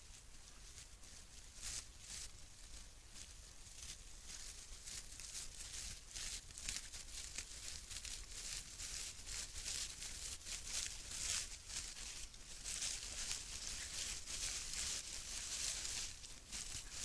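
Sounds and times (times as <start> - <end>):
boars rustling in leaf litter: 0.0 - 17.0
low steady hum: 0.0 - 17.0.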